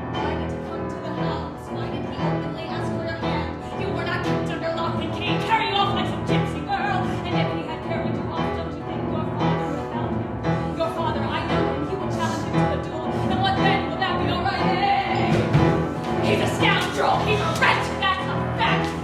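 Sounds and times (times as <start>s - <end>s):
piano accompaniment: 0.0s - 19.0s
woman singing: 0.0s - 19.0s.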